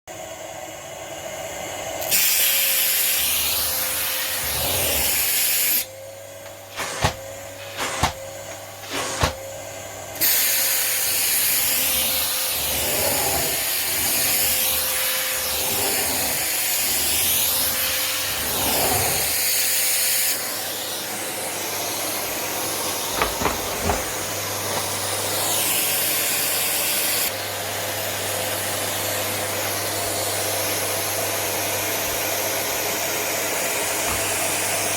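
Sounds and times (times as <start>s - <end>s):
vacuum cleaner suction hiss: 0.1s - 34.9s.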